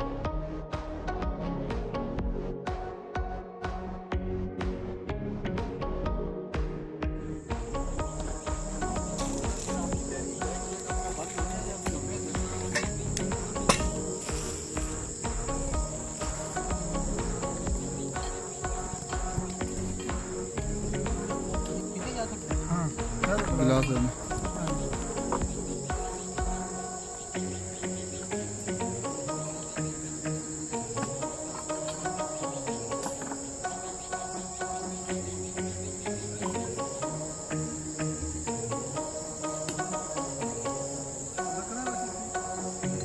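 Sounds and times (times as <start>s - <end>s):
plucked string music: 7.1s - 43.0s
crickets chirring: 7.4s - 43.0s
insect chorus: 7.4s - 43.0s.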